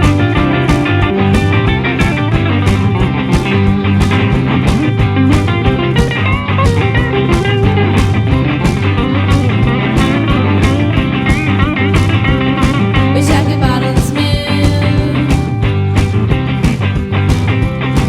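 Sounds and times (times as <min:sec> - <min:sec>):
blues-rock guitar: 0:00.0 - 0:18.0
steady drum beat: 0:00.0 - 0:18.0.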